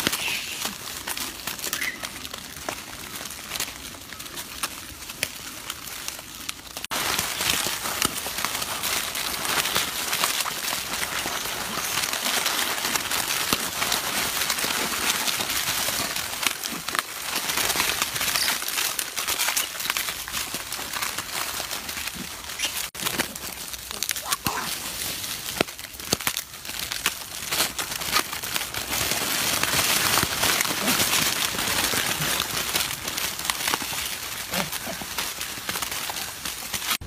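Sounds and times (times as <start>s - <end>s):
plastic wrappers crinkling: 0.0s - 37.0s.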